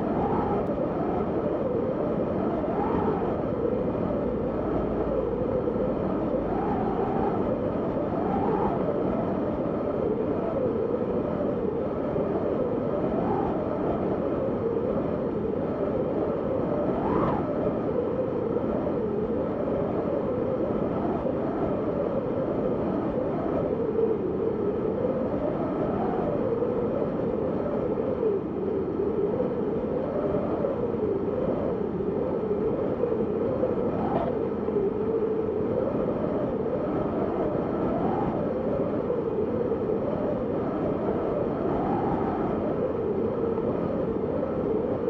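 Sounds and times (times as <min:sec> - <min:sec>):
howling storm wind: 0:00.0 - 0:45.0.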